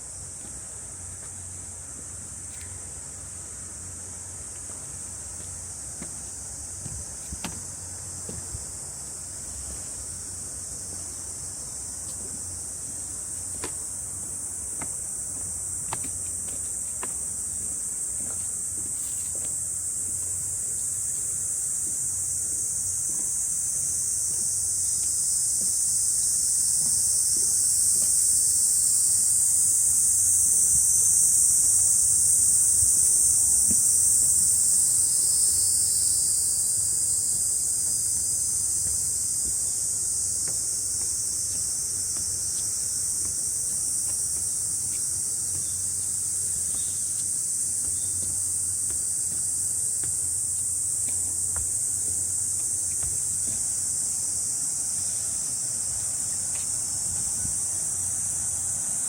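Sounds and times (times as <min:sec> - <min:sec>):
cicadas droning: 0:00.0 - 0:59.0.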